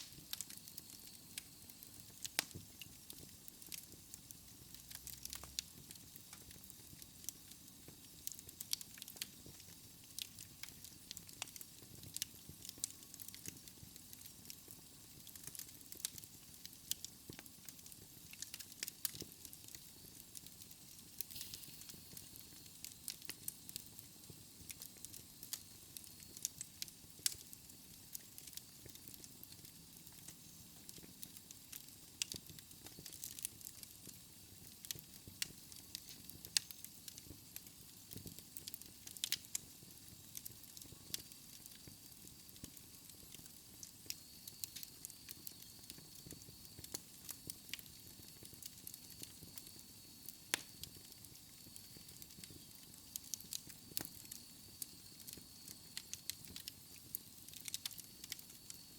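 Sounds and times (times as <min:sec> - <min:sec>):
soft hiss: 0:00.0 - 0:58.9
wood fire crackling and popping: 0:00.0 - 0:58.9.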